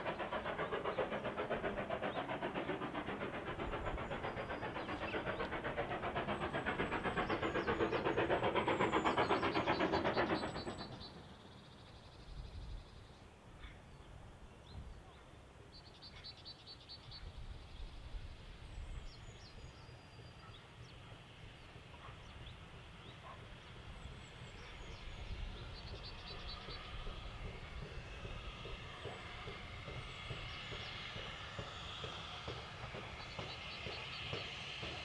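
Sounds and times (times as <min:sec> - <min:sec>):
steam train approaching: 0:00.0 - 0:13.5, 0:14.1 - 0:35.0.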